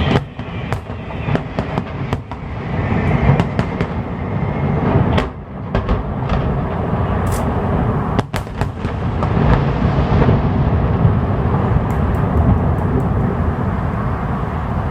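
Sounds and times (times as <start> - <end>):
sharp fireworks cracks: 0.0 - 14.1
fireworks booming: 0.0 - 14.9
light fireworks crackles: 0.0 - 14.9.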